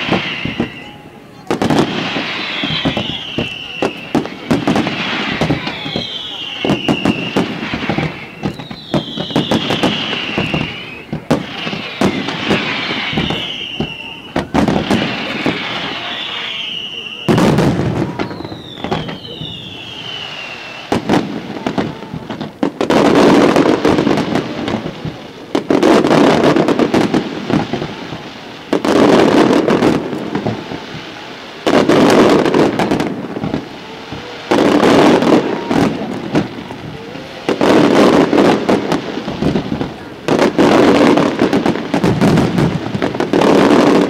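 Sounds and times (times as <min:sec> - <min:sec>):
firework bursts with crackle: 0:00.0 - 0:44.0
firework whistles falling: 0:00.0 - 0:44.0.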